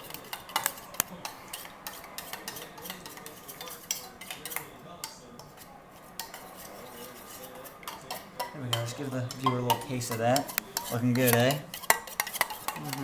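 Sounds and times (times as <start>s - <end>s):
spoon stirring in a pot: 0.0s - 13.0s.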